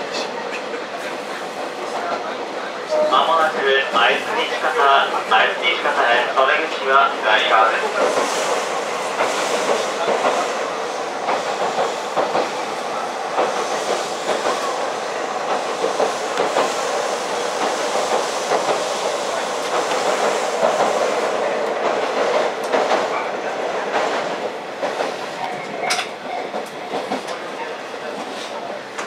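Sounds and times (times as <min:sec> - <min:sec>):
wheels rushing on rail: 0:00.0 - 0:29.0.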